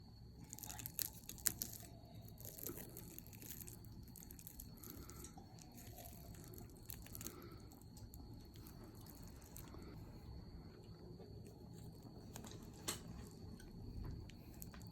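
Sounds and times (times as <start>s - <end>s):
crunching and chewing: 0.4s - 14.9s.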